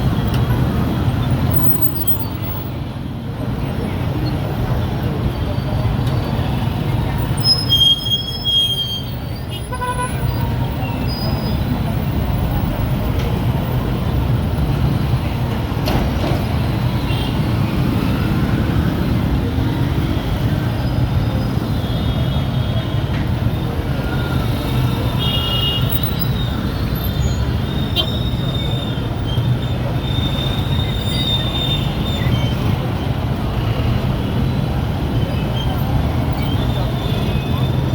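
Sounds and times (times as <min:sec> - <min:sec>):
motorcycle engines: 0:00.0 - 0:07.5, 0:09.1 - 0:37.9
street traffic: 0:00.0 - 0:37.9.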